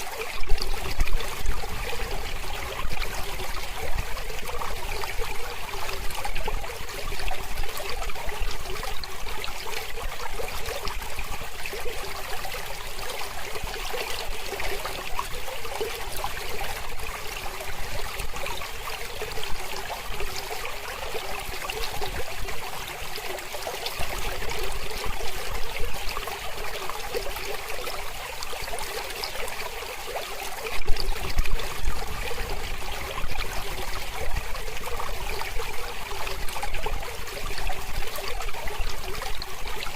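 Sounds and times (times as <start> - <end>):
mountain river flowing: 0.0 - 39.9.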